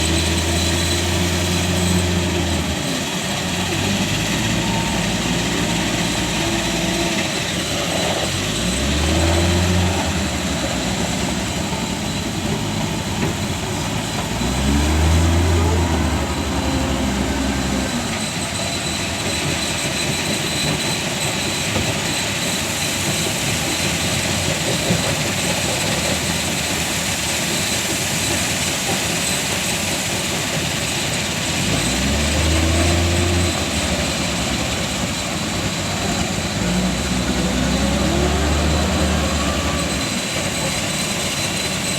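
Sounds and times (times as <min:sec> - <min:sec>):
road and drivetrain noise: 0:00.0 - 0:41.9
truck engine running: 0:00.0 - 0:41.9.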